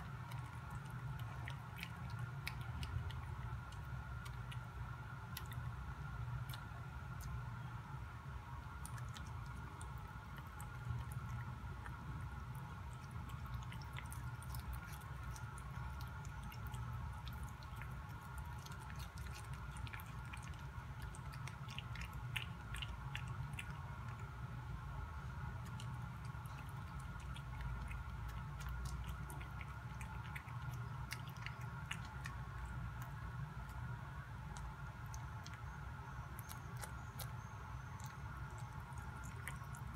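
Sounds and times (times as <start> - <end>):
cat chewing with mouth clicks: 0.0 - 39.9
low background hum: 0.0 - 39.9.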